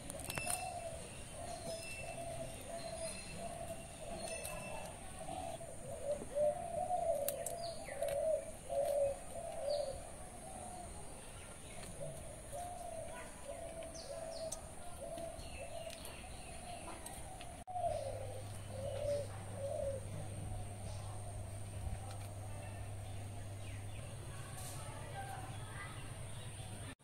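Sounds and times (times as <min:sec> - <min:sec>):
doves cooing: 0:00.0 - 0:27.0
small birds chirping: 0:00.0 - 0:27.0.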